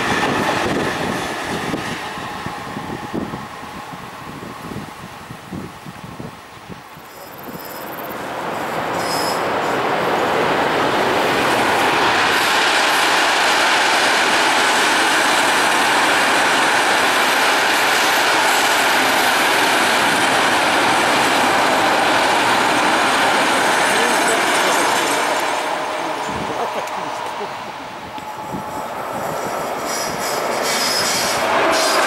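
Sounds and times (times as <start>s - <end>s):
freight train wheels on rail: 0.0s - 32.0s.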